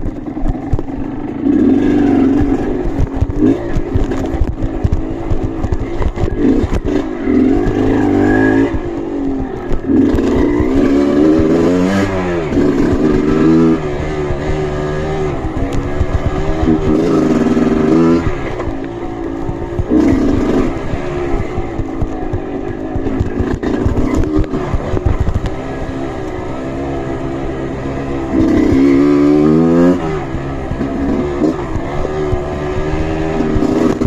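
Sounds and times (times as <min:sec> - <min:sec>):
knocks and clatter: 0:00.0 - 0:34.0
motorcycle engine revving: 0:00.0 - 0:34.0.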